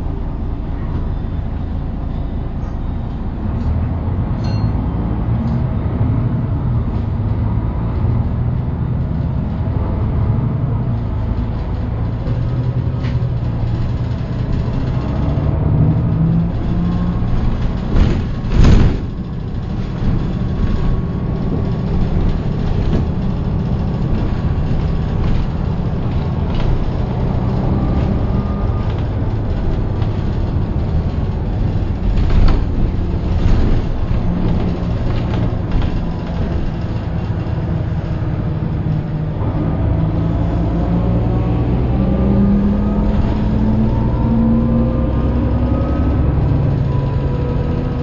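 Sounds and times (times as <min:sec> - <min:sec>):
bus body rattles: 0:00.0 - 0:48.0
bus diesel engine running: 0:00.0 - 0:48.0.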